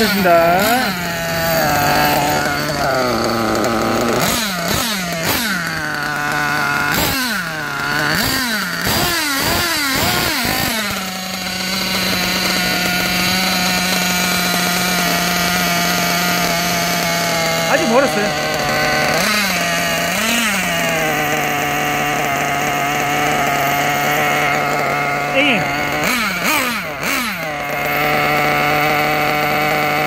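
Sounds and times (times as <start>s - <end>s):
small engine idling: 0.0s - 30.0s
small two-stroke engine revving: 0.0s - 30.0s.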